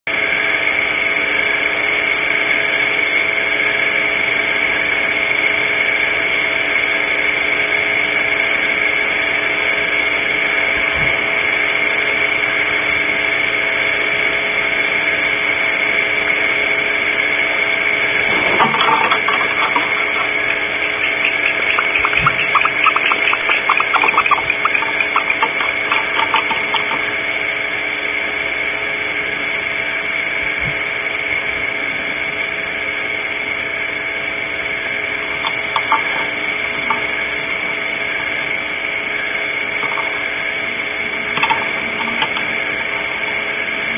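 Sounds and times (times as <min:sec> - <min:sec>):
steady electrical hum: 0:00.1 - 0:43.9.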